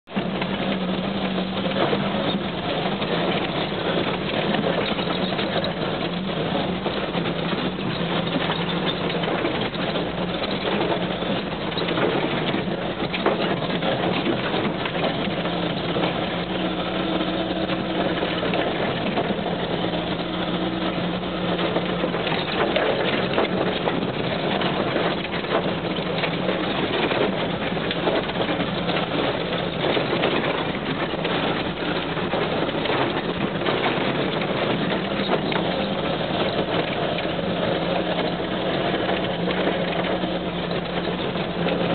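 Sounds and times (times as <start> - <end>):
gravel road noise and knocks: 0.0 - 41.9
vehicle engine humming: 0.0 - 41.9.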